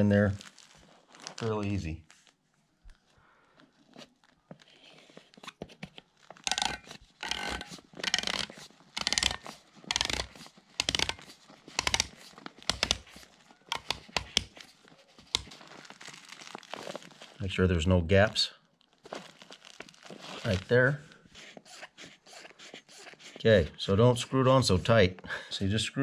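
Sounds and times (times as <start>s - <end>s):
plastic crinkling and rubbing: 0.0s - 25.0s.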